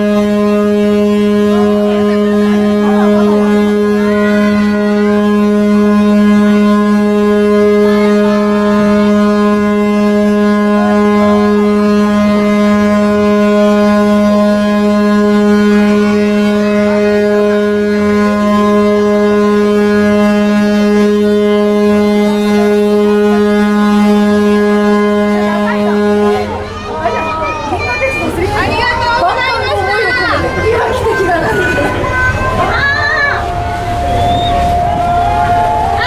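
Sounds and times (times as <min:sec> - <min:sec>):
ship's horn long blast: 0:00.0 - 0:36.0.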